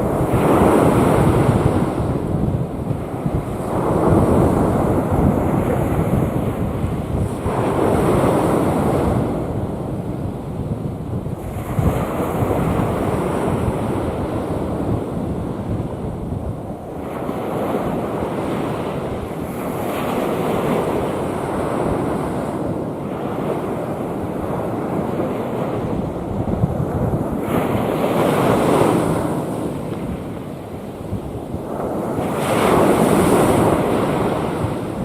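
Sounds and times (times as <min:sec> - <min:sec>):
rough sea waves breaking: 0:00.0 - 0:35.0
wind buffeting microphone: 0:00.0 - 0:35.0.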